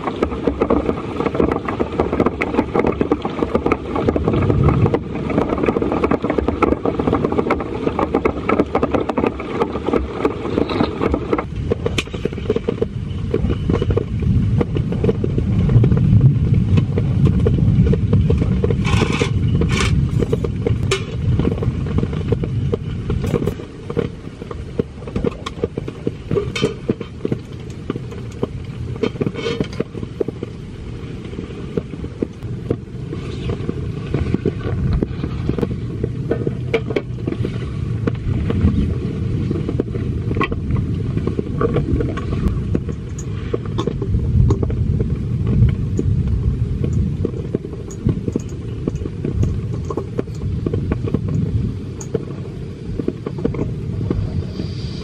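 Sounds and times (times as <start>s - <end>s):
heavy rain drumming on a tent: 0.0s - 31.2s, 31.8s - 55.0s
camping gear clicks and scrapes: 0.0s - 46.2s, 46.8s - 55.0s.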